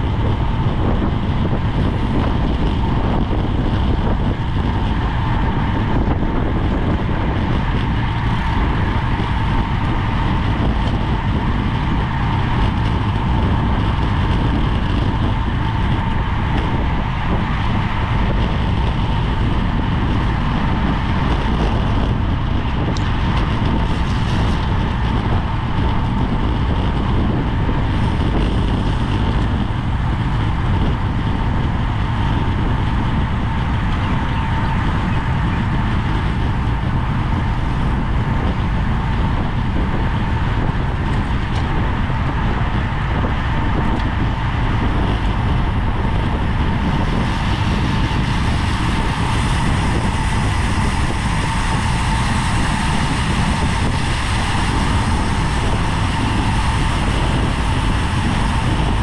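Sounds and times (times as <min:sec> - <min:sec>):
thin steady whine: 0:00.0 - 0:59.0
wind buffeting microphone: 0:00.0 - 0:59.0.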